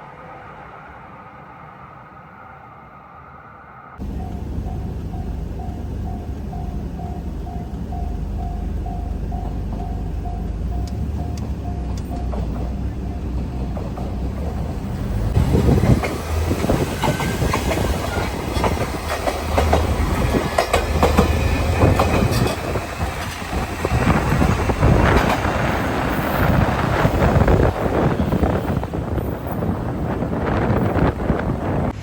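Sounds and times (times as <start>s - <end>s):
train wheels clattering on rails: 4.0s - 31.5s.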